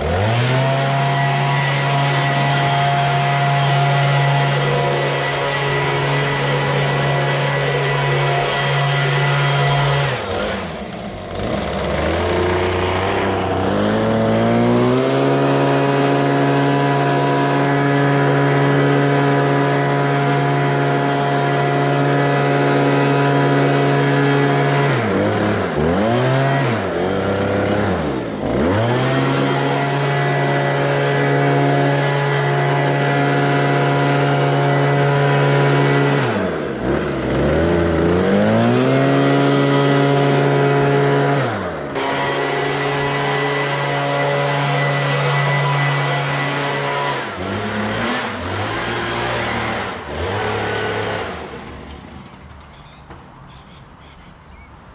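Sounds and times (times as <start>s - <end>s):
small petrol engine at high revs: 0.0s - 52.9s.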